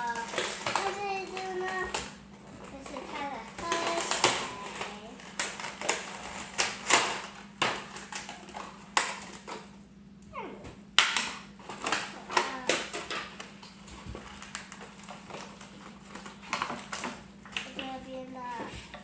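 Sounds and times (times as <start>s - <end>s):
plastic packaging clicks and knocks: 0.0s - 9.7s, 11.0s - 18.0s.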